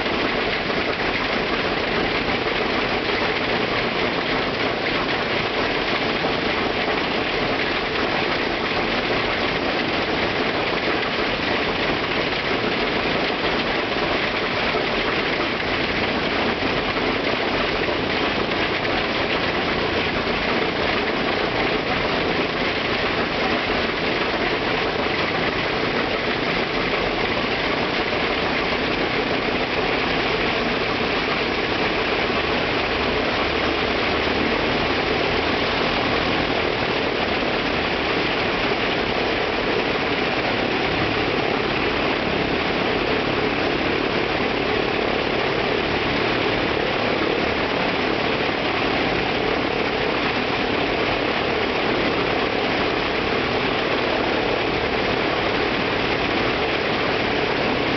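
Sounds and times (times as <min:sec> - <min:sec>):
radial engine and propeller running: 0:00.0 - 0:57.9.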